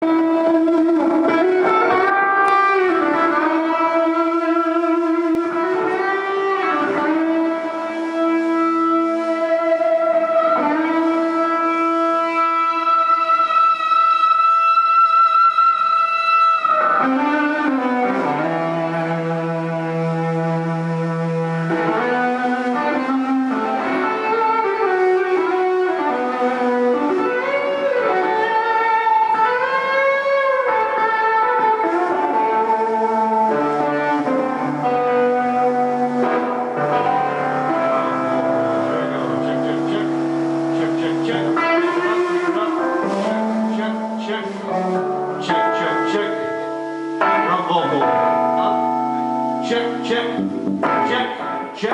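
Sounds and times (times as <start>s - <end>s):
electric guitar lead with bends: 0.0s - 51.9s.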